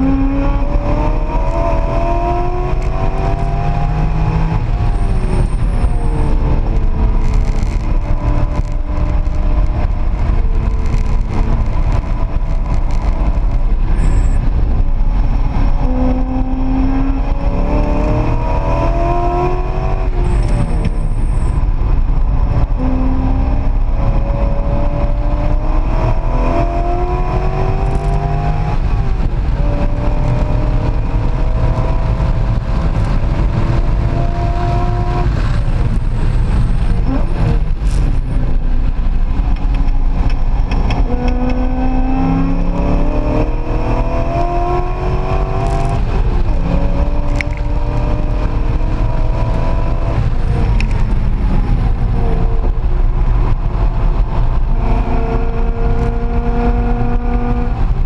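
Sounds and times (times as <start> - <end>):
car engine revving: 0.0 - 58.0
road rumble: 0.0 - 58.0.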